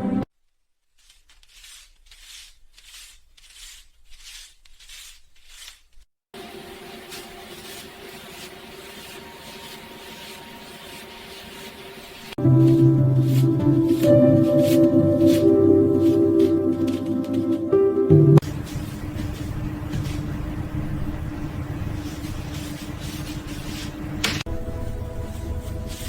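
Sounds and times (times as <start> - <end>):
banknotes rubbing and rustling: 0.8 - 17.8, 18.4 - 26.0.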